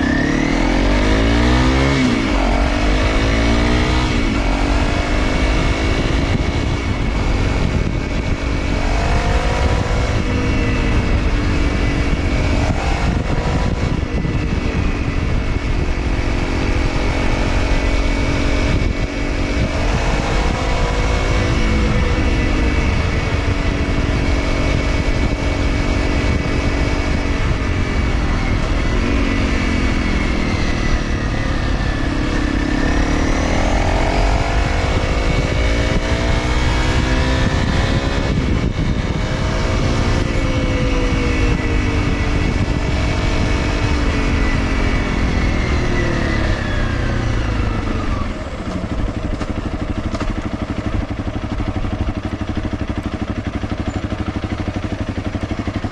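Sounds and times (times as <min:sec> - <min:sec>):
motorcycle engine revving: 0:00.0 - 0:55.9
wind and road noise: 0:00.0 - 0:55.9.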